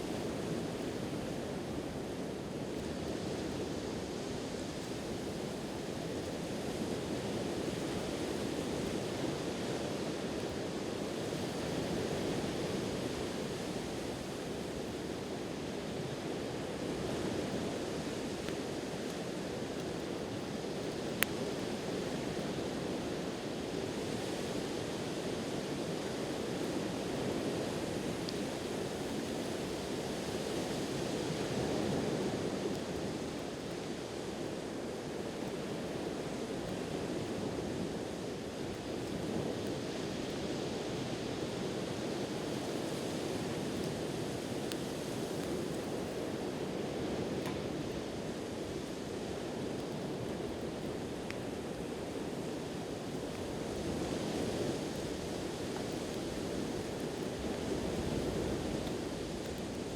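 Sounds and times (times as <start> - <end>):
campfire crackle: 0.0 - 59.9.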